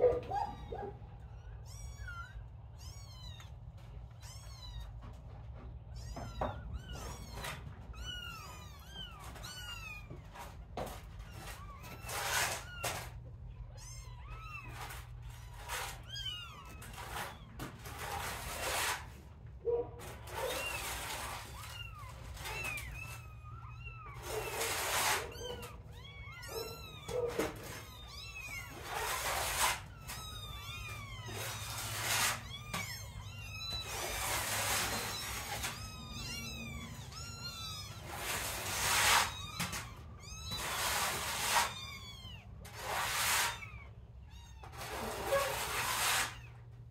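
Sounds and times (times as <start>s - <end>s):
kittens mewing: 0.0s - 46.9s.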